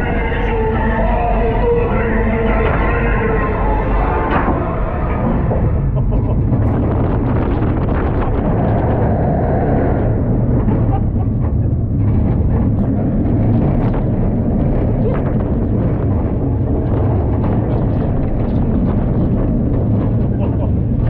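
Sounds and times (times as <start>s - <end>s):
water coaster boat rumbling: 0.0s - 21.0s.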